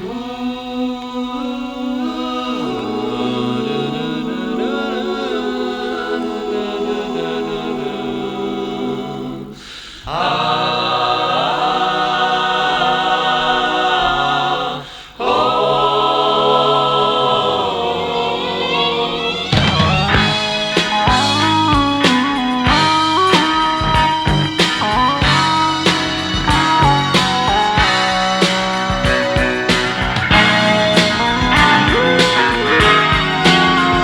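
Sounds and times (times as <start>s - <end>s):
wordless vocal harmony: 0.0s - 34.0s.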